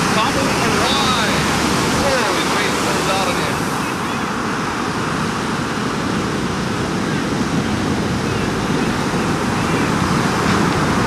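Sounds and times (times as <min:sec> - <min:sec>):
ocean surf breaking: 0:00.0 - 0:11.0
wind noise: 0:00.0 - 0:11.0.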